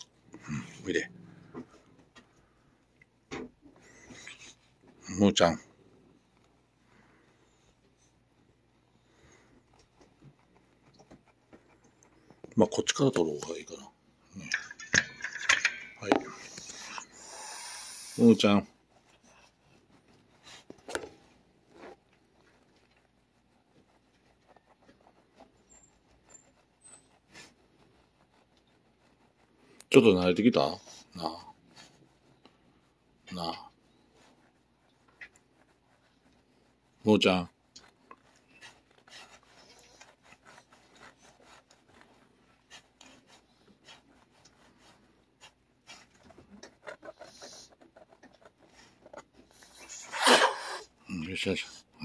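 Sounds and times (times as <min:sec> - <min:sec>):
glove rubbing cat fur: 0:03.8 - 0:14.2, 0:16.2 - 0:52.0.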